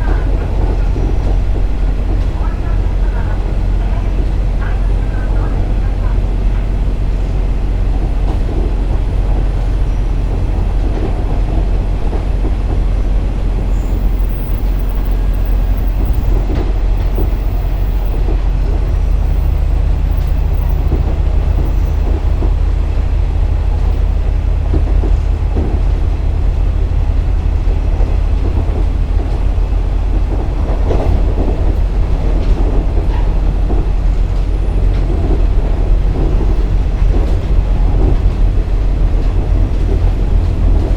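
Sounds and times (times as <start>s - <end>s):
diesel engine drone: 0.0s - 40.9s
rail joint clicks: 0.0s - 40.9s
wheel and rail noise: 0.0s - 40.9s.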